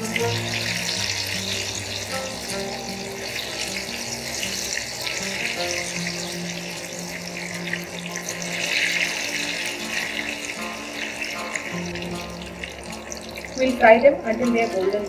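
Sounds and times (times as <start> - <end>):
food deep-frying in oil: 0.0 - 15.0
soft background music: 0.0 - 15.0.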